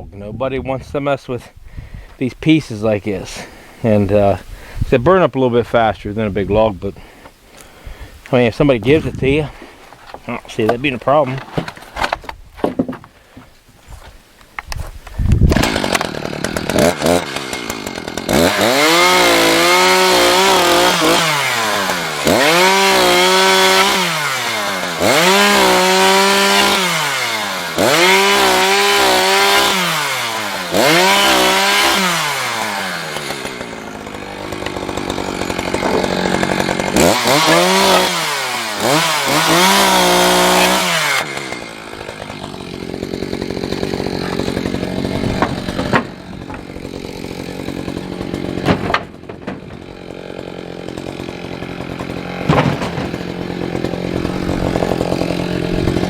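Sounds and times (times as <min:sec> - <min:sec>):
chainsaw cutting wood: 0:09.0 - 0:56.0.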